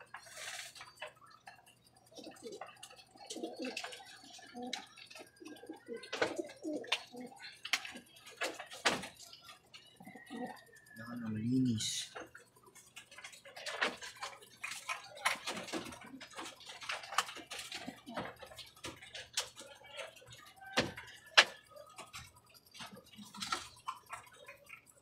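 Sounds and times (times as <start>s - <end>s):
pigeons pecking at feed: 0.0s - 25.0s.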